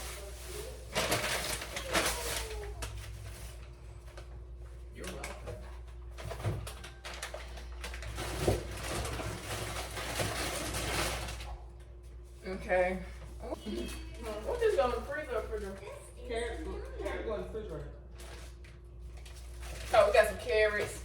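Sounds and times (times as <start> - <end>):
grocery bags rustling: 0.0 - 21.0.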